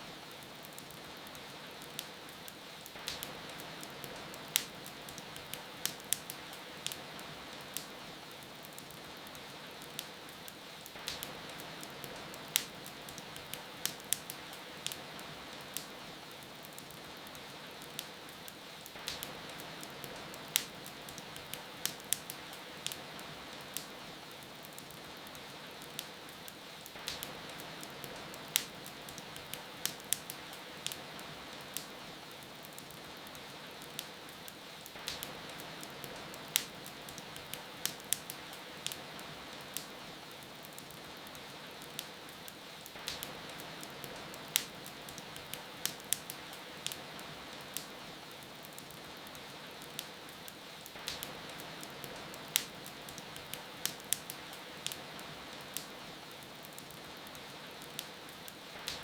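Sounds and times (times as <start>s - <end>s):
fireplace fire crackling: 0.0s - 59.0s
steady rain: 0.0s - 59.0s.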